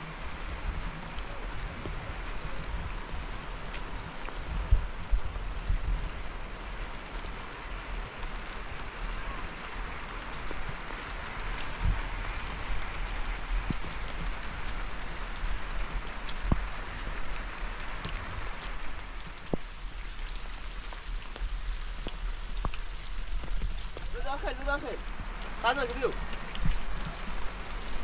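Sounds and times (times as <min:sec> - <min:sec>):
rain hissing: 0:00.0 - 0:28.0
raindrop ticks: 0:00.6 - 0:28.0.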